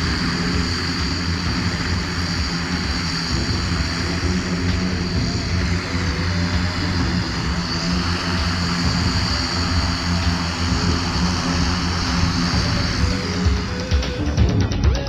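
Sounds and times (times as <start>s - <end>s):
helicopter engine and rotor droning: 0.0s - 15.0s.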